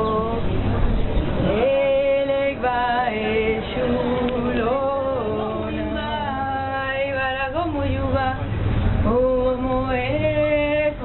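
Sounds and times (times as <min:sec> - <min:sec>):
person singing slow chant: 0:01.4 - 0:11.0.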